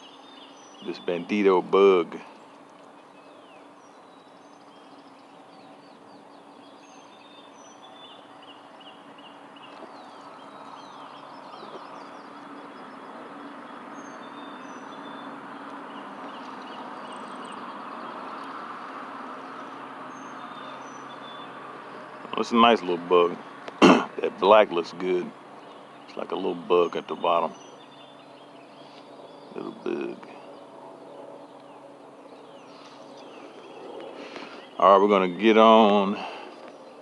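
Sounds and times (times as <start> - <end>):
background hum and rush: 0.0 - 37.0
small birds chirping: 0.0 - 37.0.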